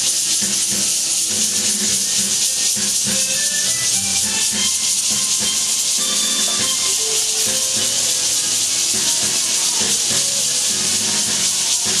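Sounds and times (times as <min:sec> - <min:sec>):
cicada chorus buzzing: 0:00.0 - 0:12.0.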